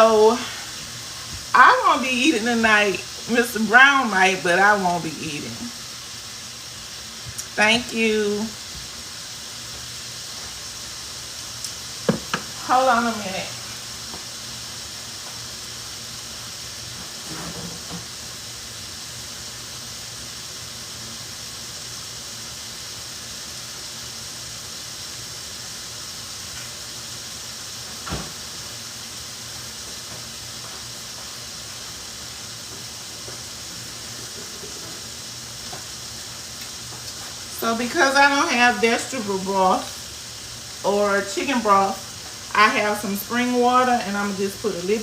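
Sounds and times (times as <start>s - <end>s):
vegetables sizzling in a skillet: 0.0s - 45.0s.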